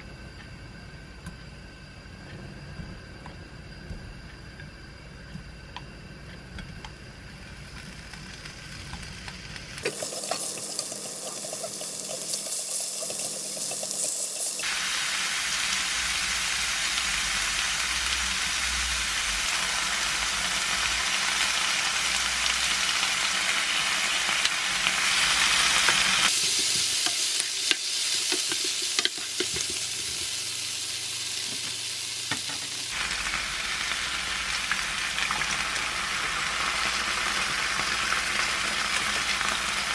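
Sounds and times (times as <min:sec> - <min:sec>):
seafood sizzling in frying pan: 0:07.4 - 0:39.9.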